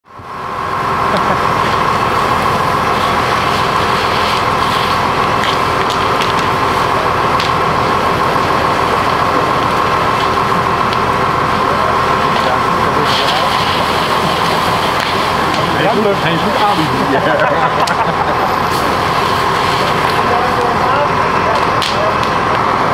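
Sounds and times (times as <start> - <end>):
fire engine running: 0.0 - 22.9
fire crackling and popping: 0.1 - 22.9.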